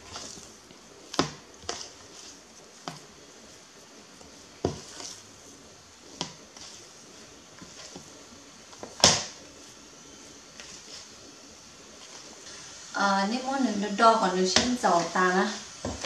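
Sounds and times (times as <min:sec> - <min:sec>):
dough squishing while kneaded: 0:00.0 - 0:16.0.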